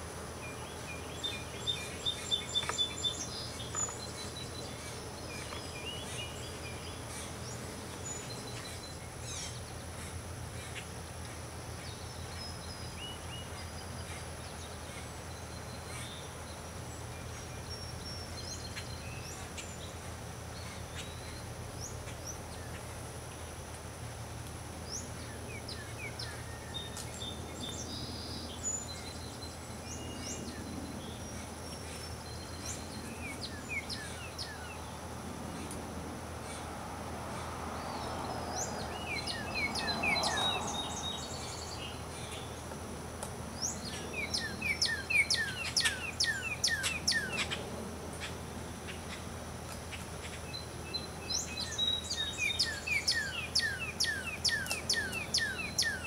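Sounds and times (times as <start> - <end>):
small birds chirping: 0.0 - 23.5, 24.8 - 36.7, 37.3 - 56.0
steady low hum: 0.0 - 55.8.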